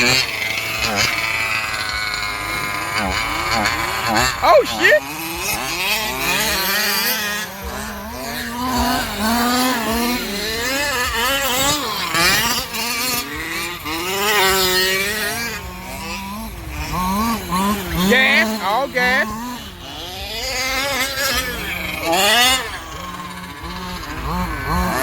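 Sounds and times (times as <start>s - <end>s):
radio-controlled cars whining: 0.0s - 25.0s
steady low drone: 0.0s - 25.0s.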